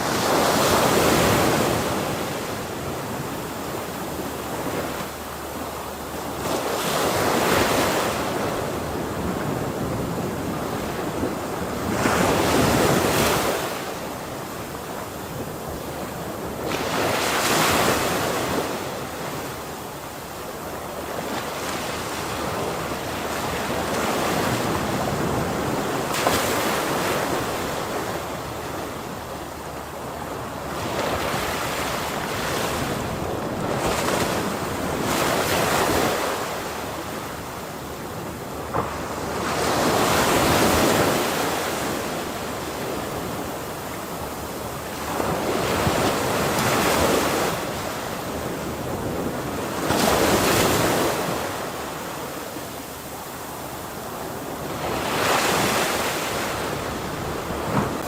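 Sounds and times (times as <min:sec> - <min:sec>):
ocean waves breaking on shore: 0:00.0 - 0:58.0
surf washing: 0:00.0 - 0:58.0.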